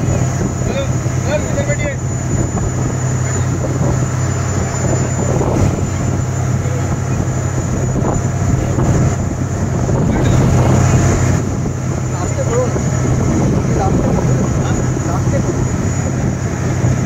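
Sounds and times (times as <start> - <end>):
motorboat engine drone: 0.0 - 17.0
rush of boat wake: 0.0 - 17.0
wind buffeting microphone: 0.0 - 17.0.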